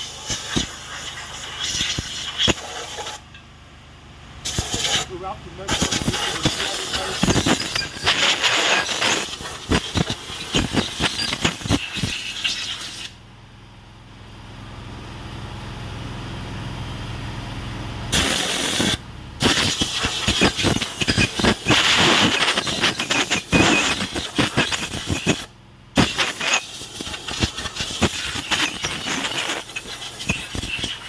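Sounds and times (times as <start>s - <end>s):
generator and compressor humming: 0.0s - 31.0s.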